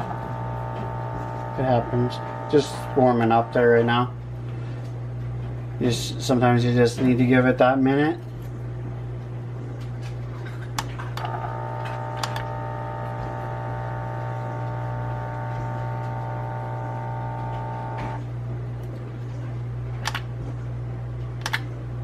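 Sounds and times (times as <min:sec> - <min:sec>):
multi-pitched whine: 0:00.0 - 0:22.0
steady low hum: 0:00.0 - 0:22.0.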